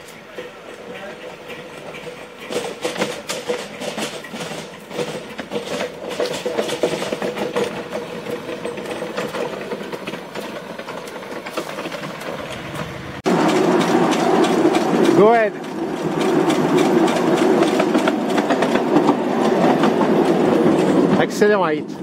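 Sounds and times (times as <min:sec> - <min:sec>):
model steam locomotive ticking: 0:00.0 - 0:21.8.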